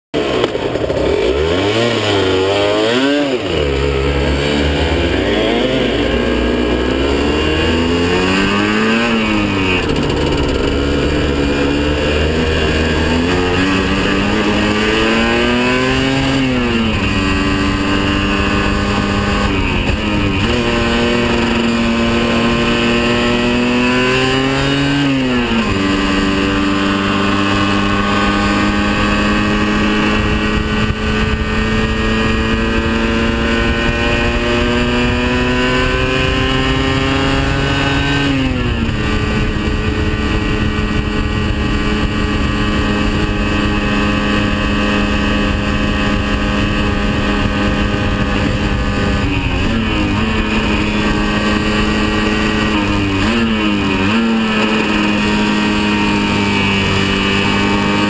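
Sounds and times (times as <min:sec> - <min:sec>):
motorcycle engine revving: 0:00.1 - 0:58.0.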